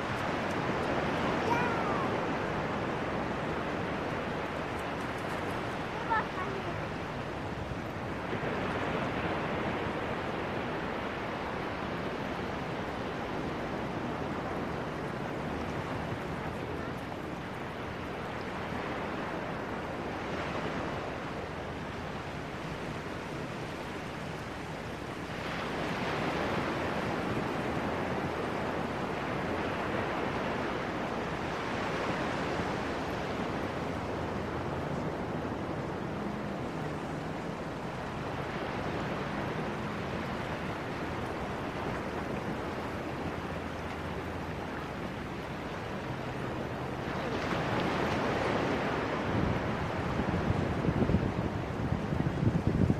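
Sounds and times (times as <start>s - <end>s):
small waves washing over sand: 0.0s - 52.9s.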